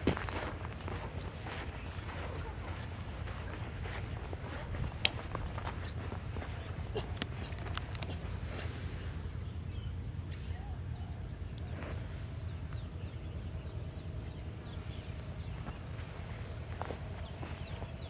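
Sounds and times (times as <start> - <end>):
bird chirping: 0.0 - 18.0
steady low rumble: 0.0 - 18.0.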